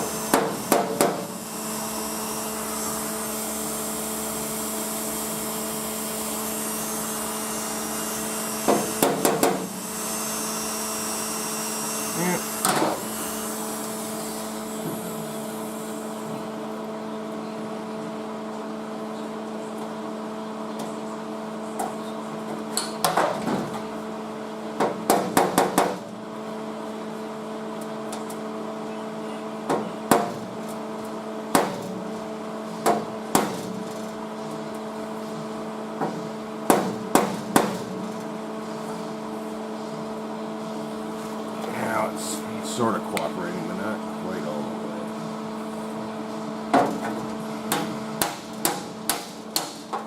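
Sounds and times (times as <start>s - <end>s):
electrical hum: 0.0s - 49.6s.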